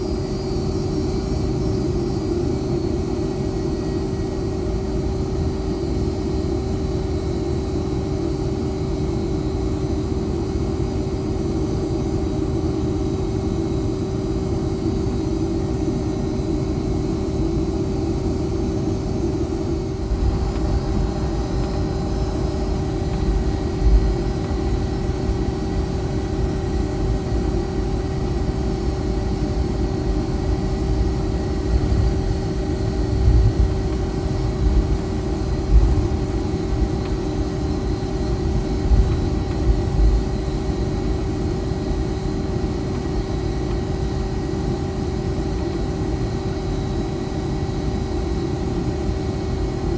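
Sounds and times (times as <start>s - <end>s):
jet engines humming in cabin: 0.0s - 49.9s.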